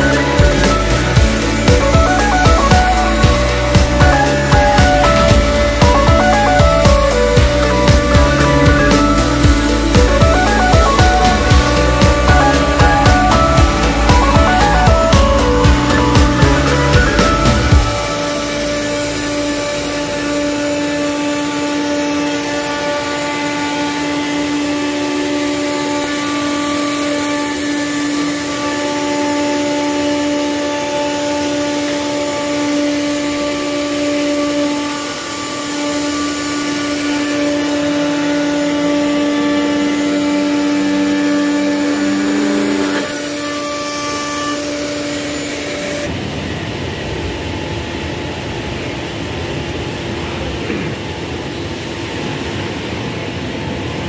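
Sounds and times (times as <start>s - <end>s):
woodworking machine whine: 0.0s - 54.0s.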